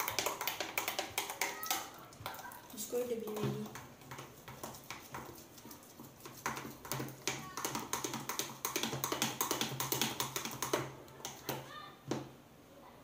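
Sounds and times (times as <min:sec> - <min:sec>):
slime squelching in bowl: 0:00.0 - 0:11.8.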